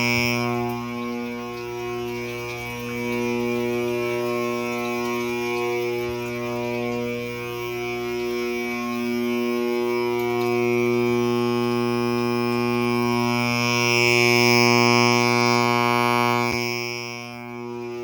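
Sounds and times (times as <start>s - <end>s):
fire alarm horn buzzing: 0.0s - 18.0s.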